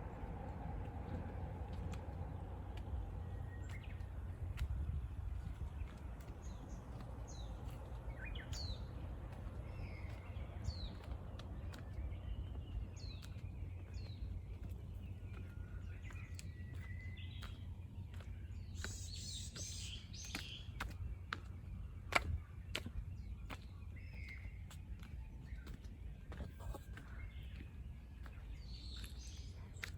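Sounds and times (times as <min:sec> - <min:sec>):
steady low rumble: 0:00.0 - 0:29.9
small birds calling: 0:01.7 - 0:29.9.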